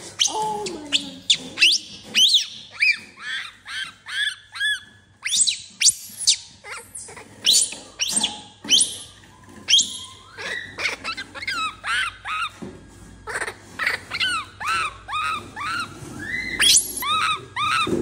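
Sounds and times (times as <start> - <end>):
baby monkey high-pitched calls: 0.2 - 12.6, 13.3 - 18.0.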